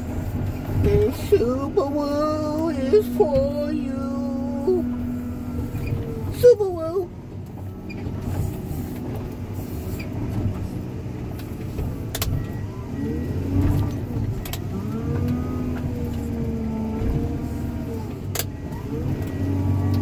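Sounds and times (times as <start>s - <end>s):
diesel engine running: 0.0s - 20.0s
hydraulic whine: 0.0s - 20.0s.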